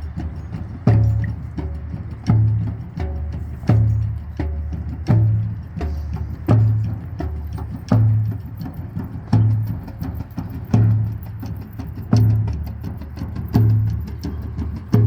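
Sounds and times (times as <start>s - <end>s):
drums beaten slowly: 0.0s - 15.0s.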